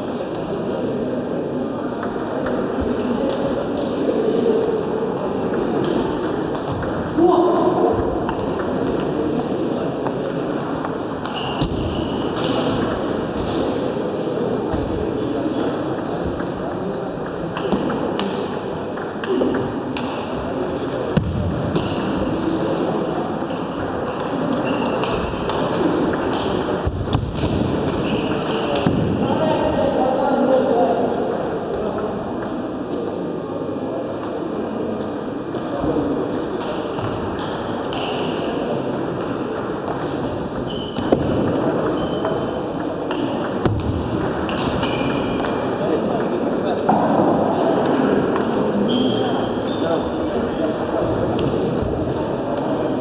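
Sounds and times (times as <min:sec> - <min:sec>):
sports hall din: 0:00.0 - 0:53.0.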